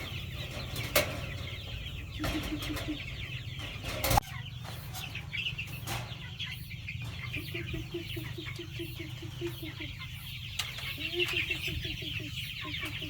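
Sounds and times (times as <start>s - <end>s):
chickens clucking: 0.0s - 13.0s
chicks cheeping: 0.0s - 13.0s.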